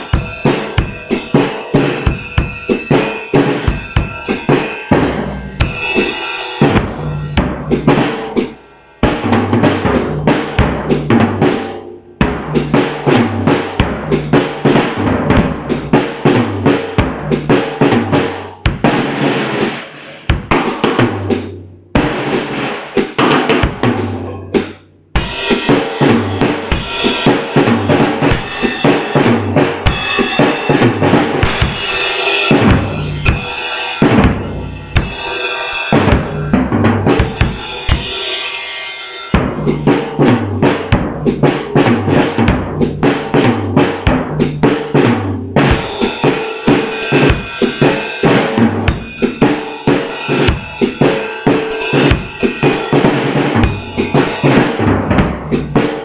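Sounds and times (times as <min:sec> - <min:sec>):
jazz drum kit groove: 0:00.0 - 0:56.0.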